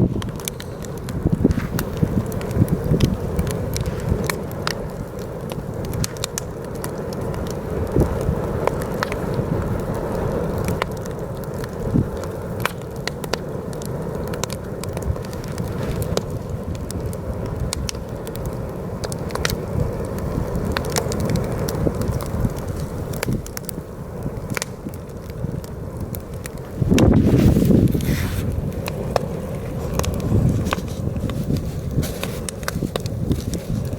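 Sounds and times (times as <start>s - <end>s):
heavy wind blowing: 0.0s - 10.9s, 14.7s - 33.9s
campfire crackling and popping: 0.0s - 33.9s.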